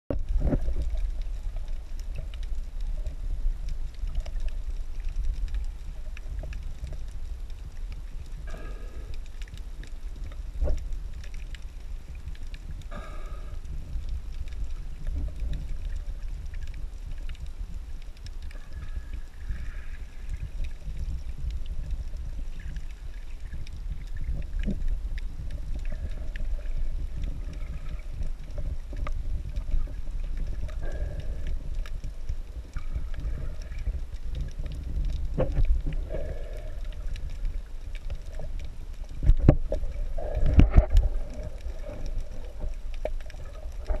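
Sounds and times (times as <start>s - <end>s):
faint clicks: 0.1s - 44.0s
muffled underwater rumble: 0.1s - 44.0s.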